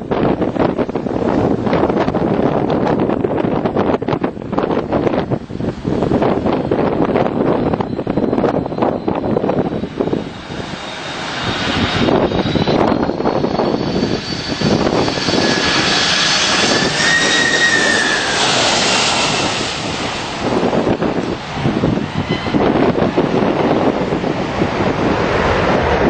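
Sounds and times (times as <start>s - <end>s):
jet airplane passing overhead: 0.0s - 26.0s.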